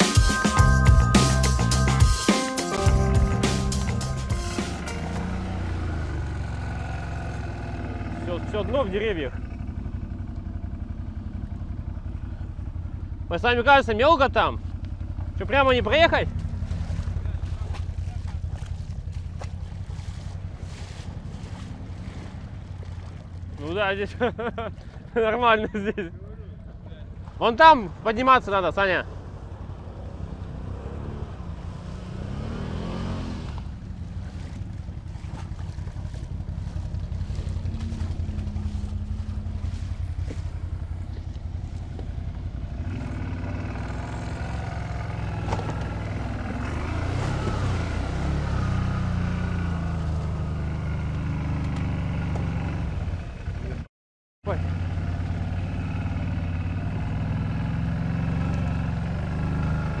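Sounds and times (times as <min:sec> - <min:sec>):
atv engine revving: 0:02.9 - 0:53.9, 0:54.5 - 1:00.0.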